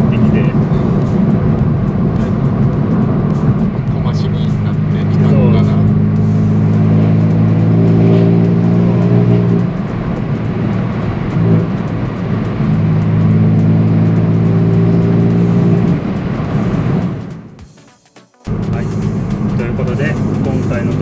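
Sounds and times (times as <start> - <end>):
car engine drone from inside cabin: 0.0 - 17.6, 18.5 - 21.0.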